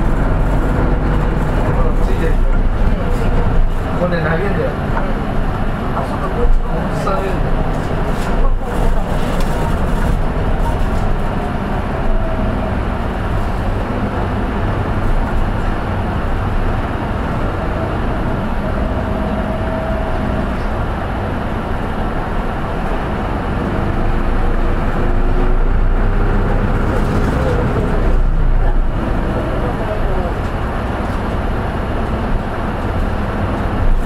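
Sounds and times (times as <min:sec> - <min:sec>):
bus engine drone: 0:00.0 - 0:34.0
road rumble: 0:00.0 - 0:34.0.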